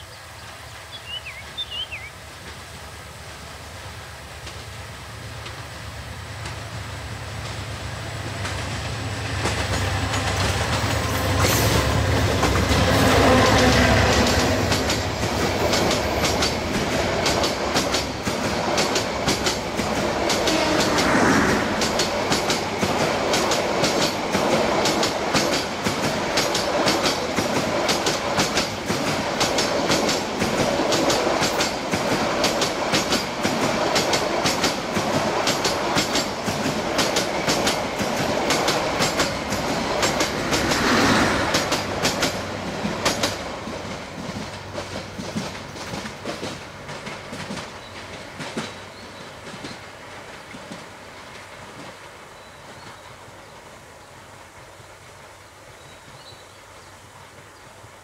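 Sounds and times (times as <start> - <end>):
diesel locomotive engine: 0.0 - 56.2
wheels clickety-clack on rail joints: 4.4 - 53.6.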